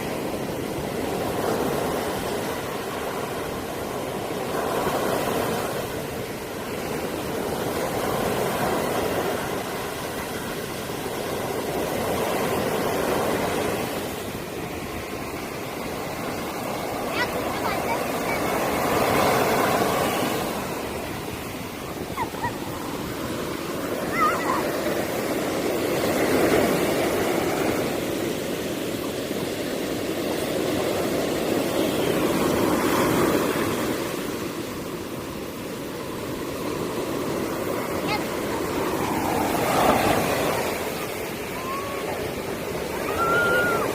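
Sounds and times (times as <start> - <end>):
sea waves breaking on beach: 0.0 - 43.9.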